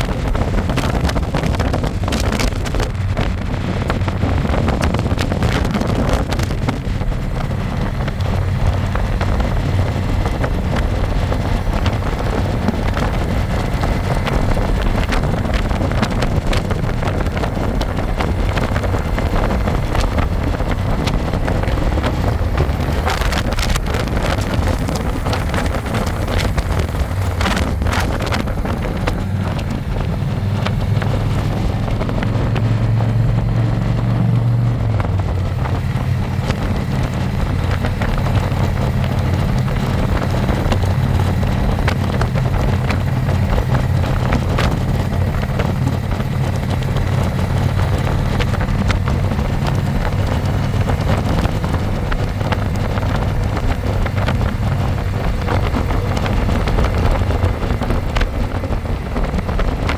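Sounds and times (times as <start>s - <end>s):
motorcycle engine running: 0.0s - 59.9s
wind rushing across microphone: 0.0s - 59.9s.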